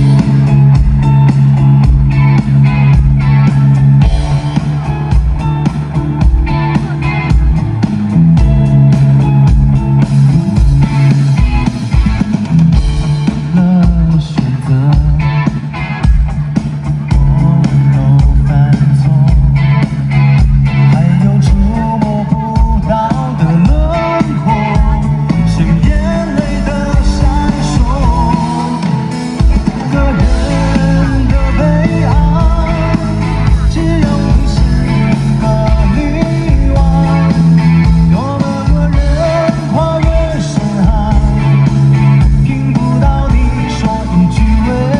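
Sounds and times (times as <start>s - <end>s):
live rock band playing: 0.0s - 44.9s
person singing: 0.0s - 44.9s.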